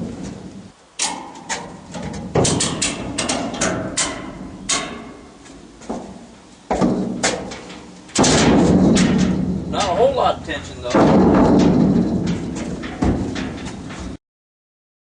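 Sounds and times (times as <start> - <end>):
metal knocks and clanks: 1.0 - 14.2.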